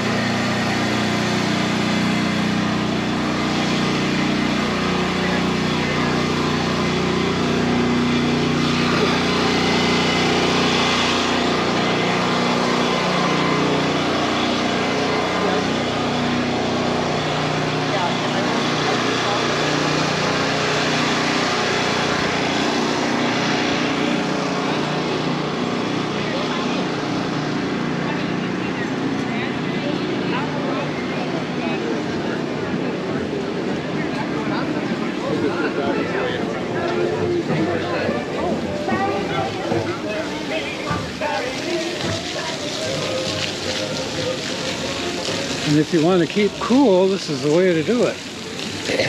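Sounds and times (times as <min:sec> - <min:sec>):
outdoor background noise: 0:00.0 - 0:49.0
small engine running: 0:00.0 - 0:49.0.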